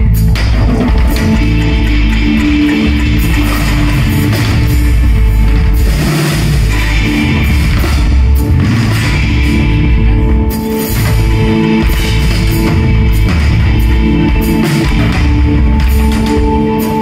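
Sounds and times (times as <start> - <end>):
electric bass: 0.0 - 17.0
electric guitar chords: 0.0 - 17.0
steady drum beat: 0.0 - 17.0.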